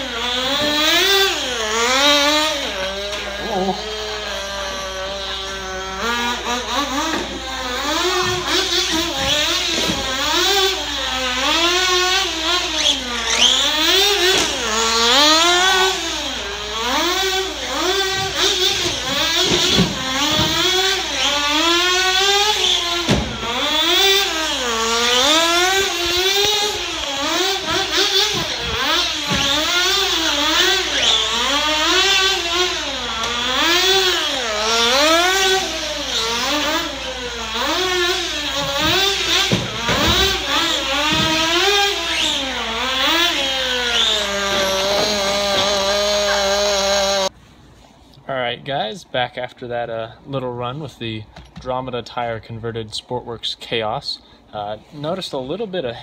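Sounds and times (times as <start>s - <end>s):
rc buggy engine revving: 0.0s - 47.9s, 48.7s - 56.0s.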